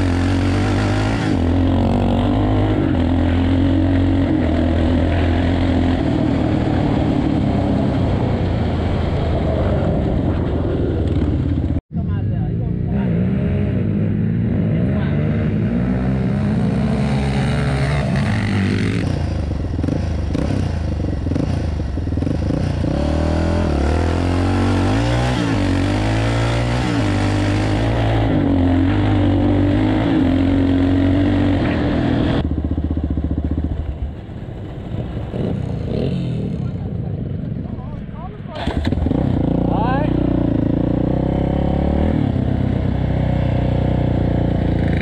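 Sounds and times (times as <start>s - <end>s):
atv engine accelerating: 0.0s - 11.8s, 12.7s - 37.6s, 38.5s - 45.0s.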